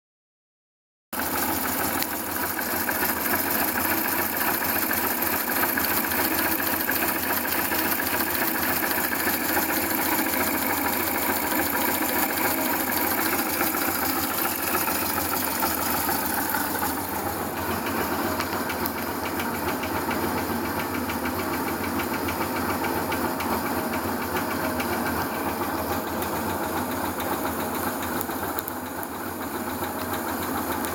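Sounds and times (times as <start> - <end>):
motorcycle engine running: 1.2 - 30.9
rapid engine ticking: 1.2 - 30.9.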